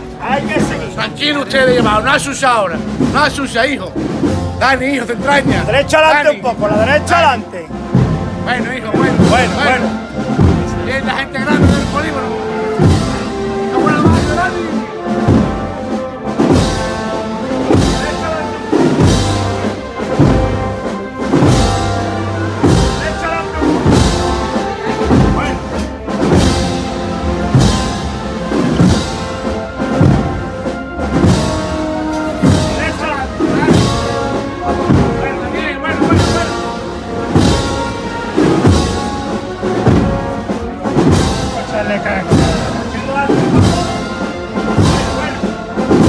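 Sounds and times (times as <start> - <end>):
band playing a slow march: 0.0 - 46.0
heavy bass drum strokes: 0.0 - 46.0
sustained wind chords: 3.9 - 46.0.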